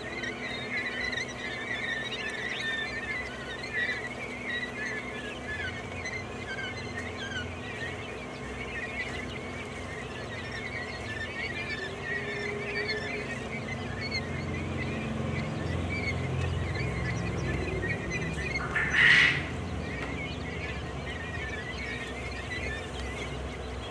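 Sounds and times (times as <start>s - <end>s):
low steady hum: 0.0s - 23.9s
quail chirping: 0.0s - 23.9s.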